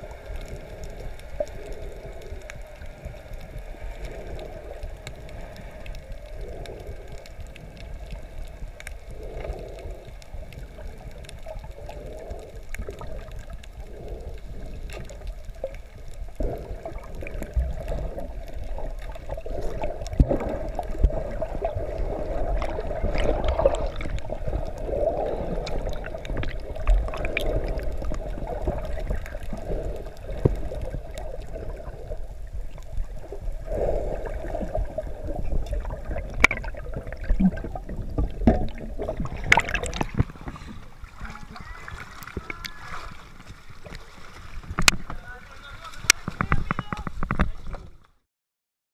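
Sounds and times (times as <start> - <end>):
muffled underwater sloshing: 0.0 - 48.2.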